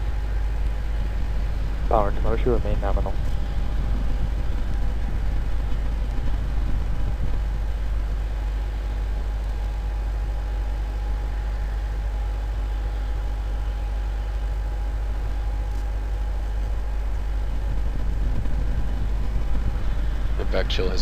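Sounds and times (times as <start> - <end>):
distant rocket engine rumble: 0.0 - 21.0
steady low hum: 0.0 - 21.0.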